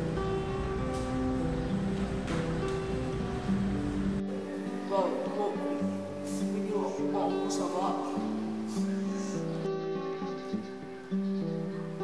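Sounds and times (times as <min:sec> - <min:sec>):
slow melody of held notes: 0:00.0 - 0:12.0.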